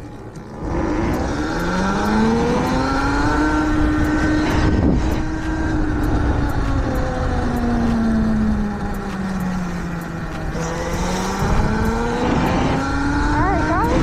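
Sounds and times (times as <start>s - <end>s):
electric motor whining: 0.0s - 14.0s
wind and road noise: 0.0s - 14.0s.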